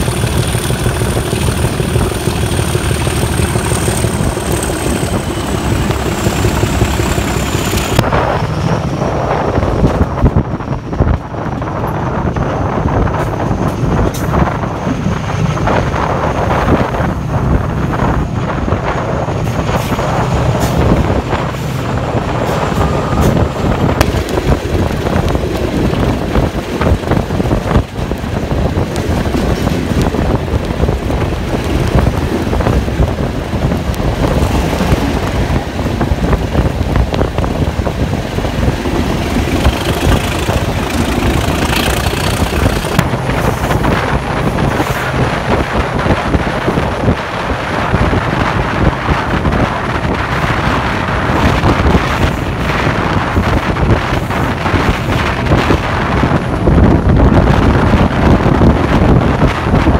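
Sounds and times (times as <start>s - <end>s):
diesel locomotive engine: 0.0s - 59.9s
wind buffeting microphone: 0.0s - 59.9s.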